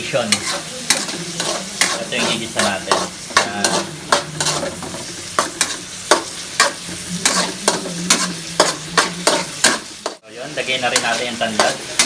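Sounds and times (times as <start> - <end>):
oil sizzling in a frying pan: 0.0 - 12.0
spatula scraping a pan: 0.0 - 12.0.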